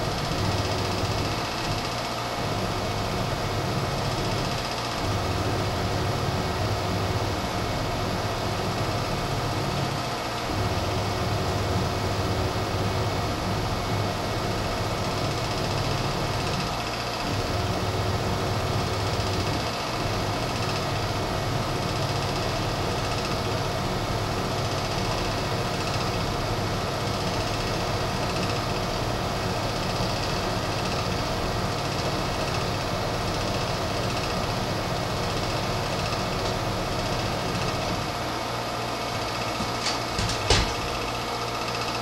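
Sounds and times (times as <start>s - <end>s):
milling machine motors humming: 0.0s - 42.0s.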